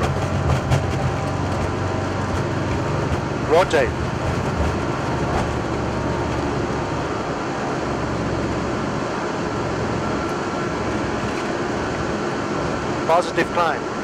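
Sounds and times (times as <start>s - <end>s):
jet engine noise: 0.0s - 14.0s
low runway rumble: 0.0s - 14.0s.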